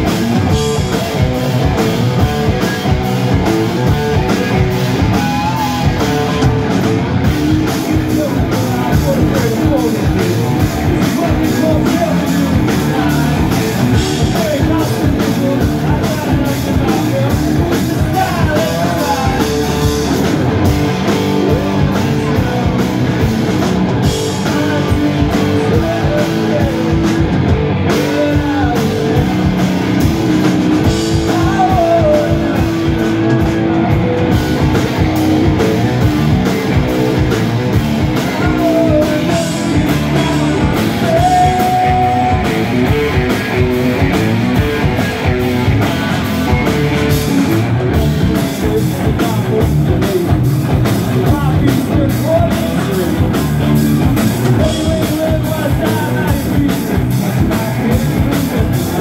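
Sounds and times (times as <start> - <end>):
bass guitar: 0.0 - 59.0
drum kit: 0.0 - 59.0
electric guitar: 0.0 - 59.0
person singing: 3.5 - 29.7, 30.8 - 33.6, 35.1 - 45.2, 45.8 - 59.0.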